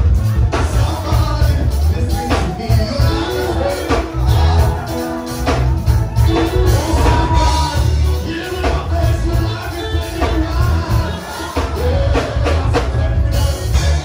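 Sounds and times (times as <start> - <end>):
gospel band with singing: 0.0 - 14.0.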